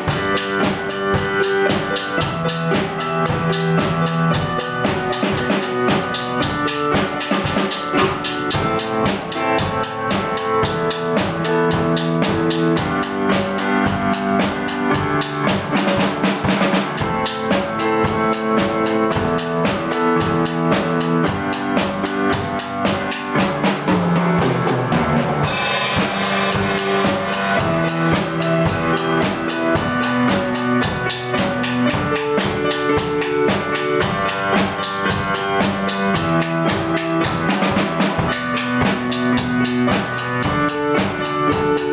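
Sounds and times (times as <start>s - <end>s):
drum kit hits: 0.0s - 41.9s.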